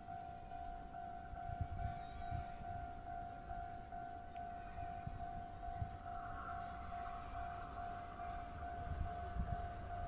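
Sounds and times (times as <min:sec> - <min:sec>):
level crossing warning bell ringing: 0:00.0 - 0:10.0.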